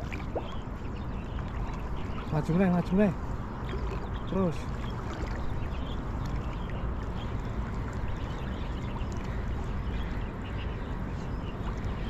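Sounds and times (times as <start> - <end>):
water sloshing around wading legs: 0.0 - 12.0.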